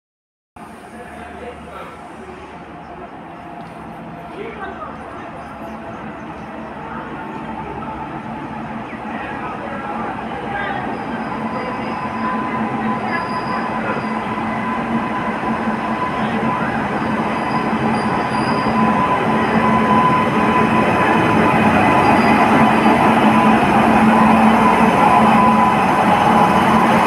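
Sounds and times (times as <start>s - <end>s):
electric locomotive hum: 0.6s - 27.0s
train wheels on rail: 0.6s - 27.0s.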